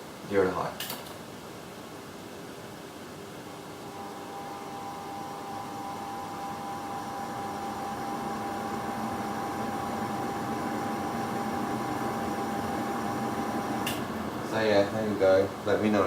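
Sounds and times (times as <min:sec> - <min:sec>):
ceiling fans whirring: 0:00.0 - 0:16.0.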